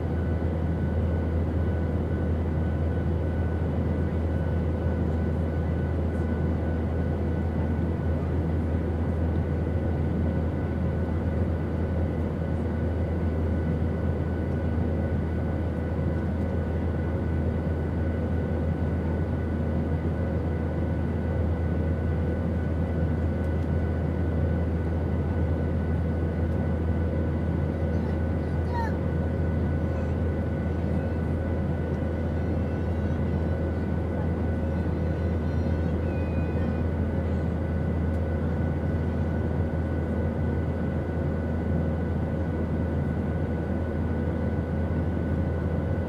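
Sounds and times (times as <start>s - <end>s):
airplane rumble: 0.0s - 46.0s
faint whine of steady tones: 0.0s - 46.0s.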